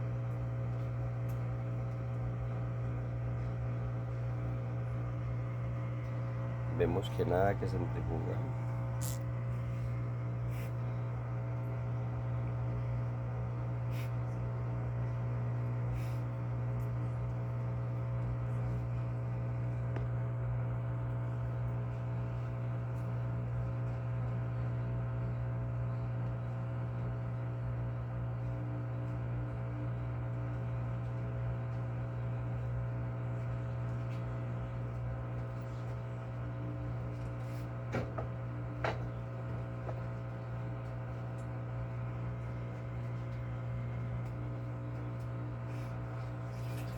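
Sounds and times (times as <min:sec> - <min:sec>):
washing machine humming: 0:00.0 - 0:46.9.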